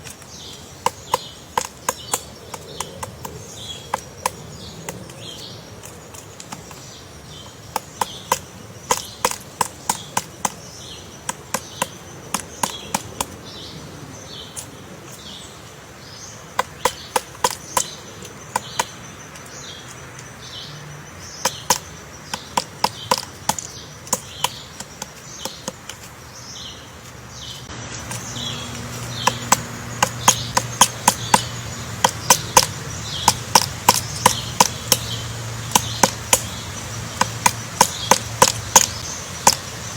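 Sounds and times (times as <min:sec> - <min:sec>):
woodpecker knocking on wood: 0:00.0 - 0:13.7, 0:16.4 - 0:39.9.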